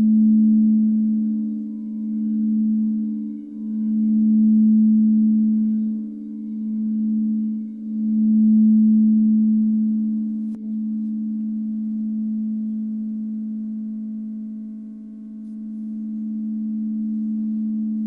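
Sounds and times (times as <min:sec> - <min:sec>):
singing bowl ringing: 0:00.0 - 0:18.0.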